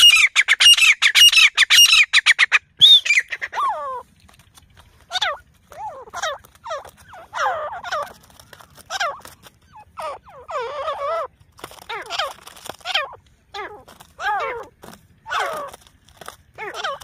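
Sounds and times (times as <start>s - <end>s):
francolins calling: 0.0s - 17.0s.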